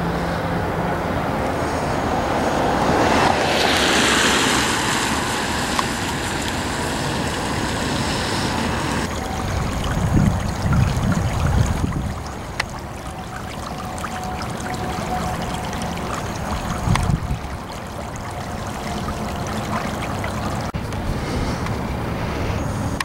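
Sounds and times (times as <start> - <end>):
wind gusts on microphone: 0.0 - 23.0
floodwater rushing: 0.6 - 21.2.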